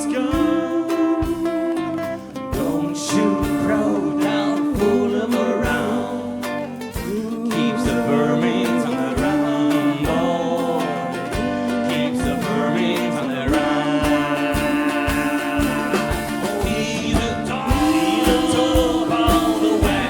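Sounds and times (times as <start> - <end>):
drum kit hitting: 0.0 - 20.0
live band playing: 0.0 - 20.0.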